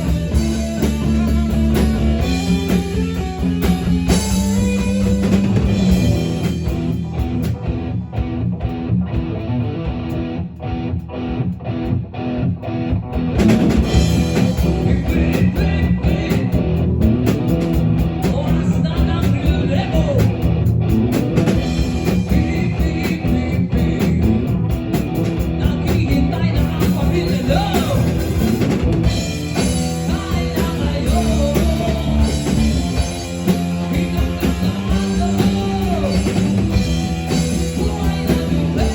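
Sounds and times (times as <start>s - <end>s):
rock band music: 0.0s - 38.9s.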